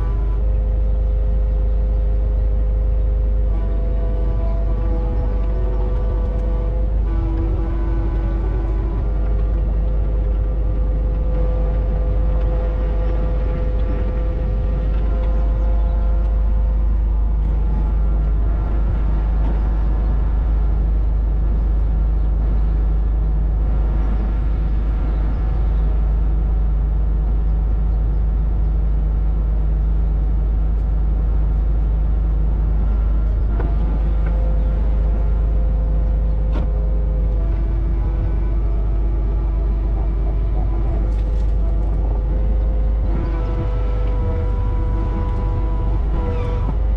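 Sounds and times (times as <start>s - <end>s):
excavator diesel engine droning: 0.0s - 46.9s.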